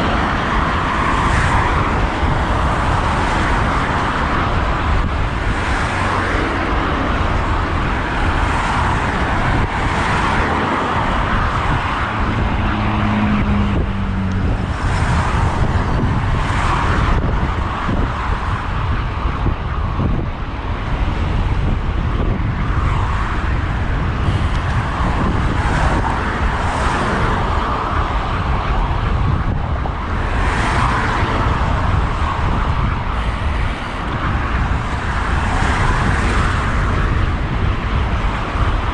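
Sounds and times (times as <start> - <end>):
cars passing: 0.0 - 38.9
wind rumble on microphone: 0.0 - 38.9.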